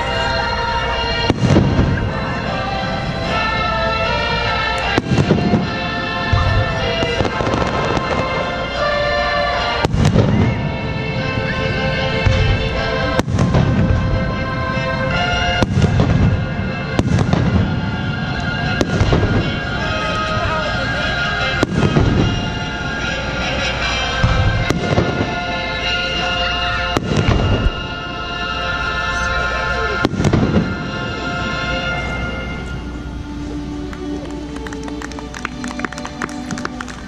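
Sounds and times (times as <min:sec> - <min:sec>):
fireworks bursting: 0:00.0 - 0:37.0
music: 0:00.0 - 0:37.0.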